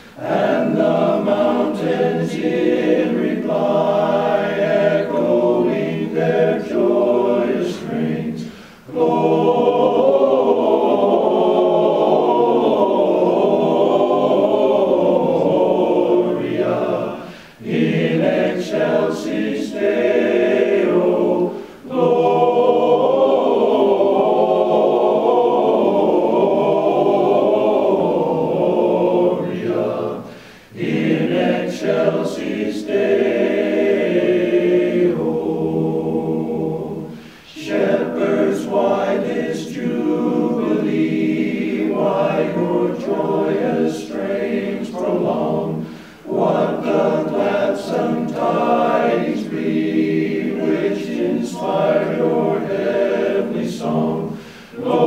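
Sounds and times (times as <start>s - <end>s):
men's chorus singing a cappella: 0.0s - 55.0s.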